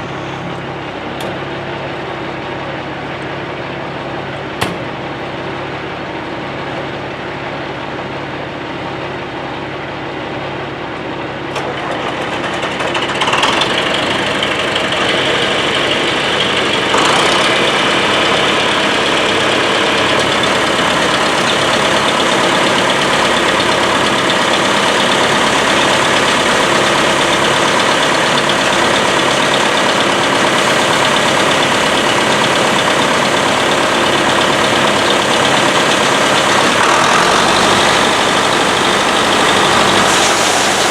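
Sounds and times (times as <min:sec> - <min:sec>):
heavy engine running: 0:00.0 - 0:40.9.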